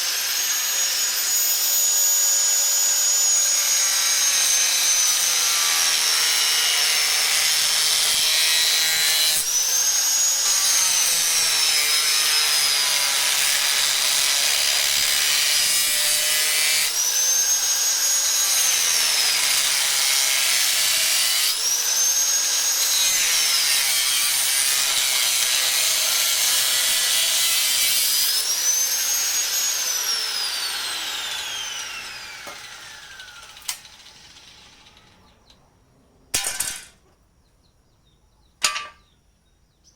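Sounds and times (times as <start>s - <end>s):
electric grinder on steel: 0.0s - 35.2s.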